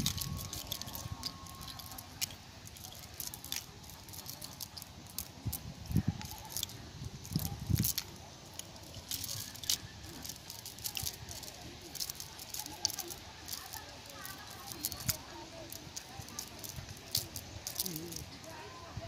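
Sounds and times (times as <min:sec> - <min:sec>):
net weights clicking and rattling: 0:00.0 - 0:18.6.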